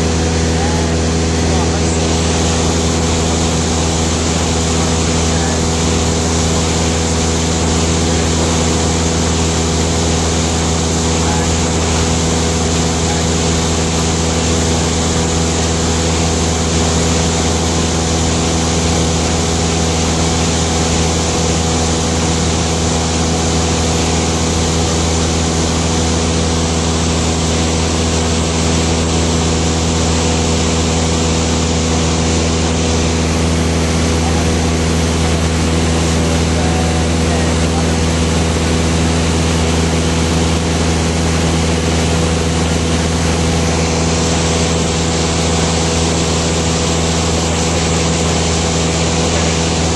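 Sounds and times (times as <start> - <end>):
aircraft engine droning: 0.0 - 49.9.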